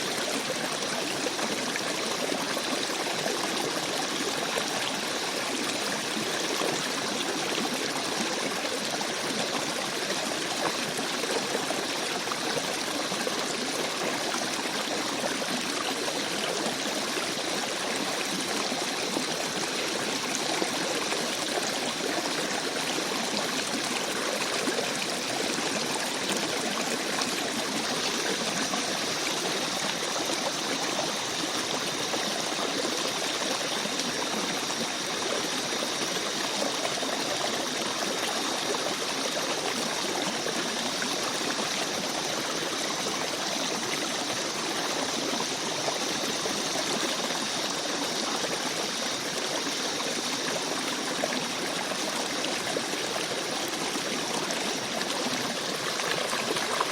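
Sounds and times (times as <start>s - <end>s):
stream babbling over stones: 0.0s - 56.9s.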